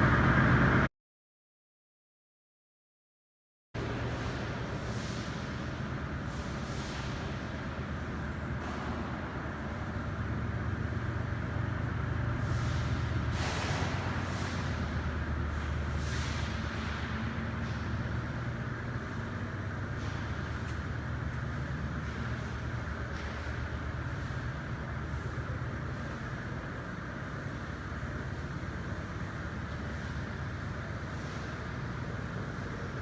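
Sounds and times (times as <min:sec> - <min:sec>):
factory machinery humming: 0:00.0 - 0:00.9, 0:03.8 - 0:33.0.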